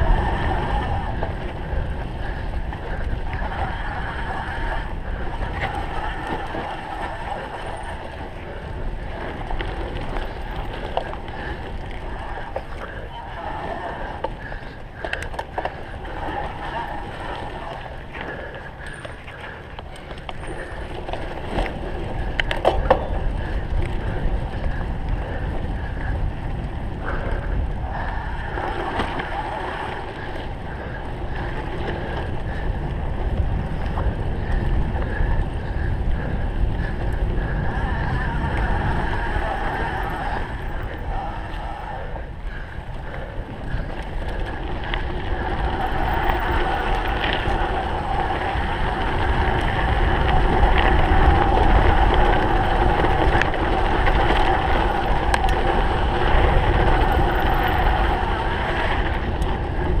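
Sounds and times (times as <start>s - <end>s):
bicycle tyres and drivetrain rumble: 0.0s - 60.0s
wind buffeting microphone: 0.0s - 60.0s.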